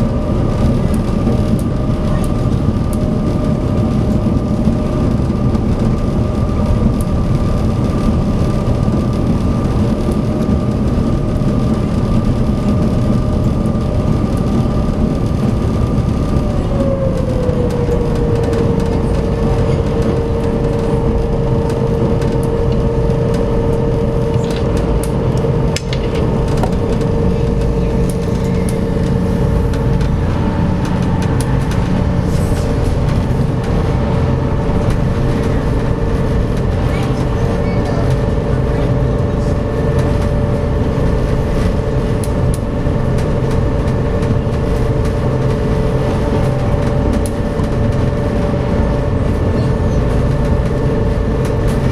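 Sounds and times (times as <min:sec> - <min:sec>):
ferry engines rumbling: 0:00.0 - 0:51.9.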